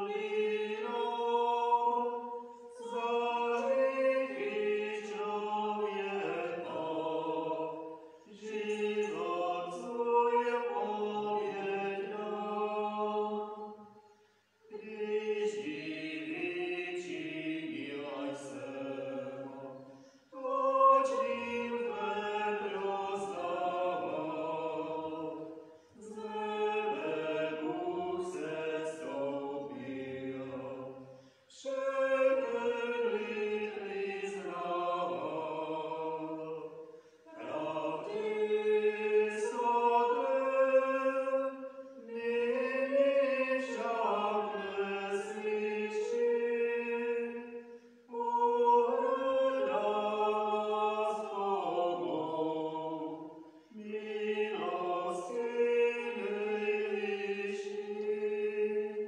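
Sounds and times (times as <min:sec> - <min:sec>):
hymn singing: 0:00.0 - 0:59.0.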